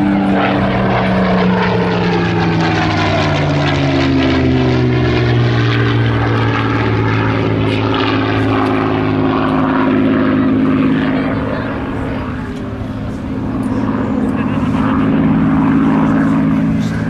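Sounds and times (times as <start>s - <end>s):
propeller plane engine flying past: 0.0s - 17.0s.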